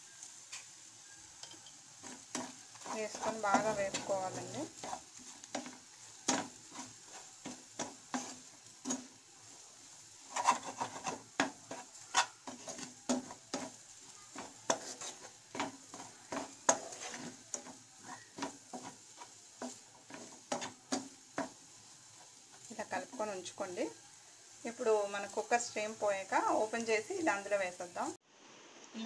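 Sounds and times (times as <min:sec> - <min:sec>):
eggs sizzling faintly: 0:00.0 - 0:29.0
spatula scraping a frying pan: 0:01.4 - 0:26.8.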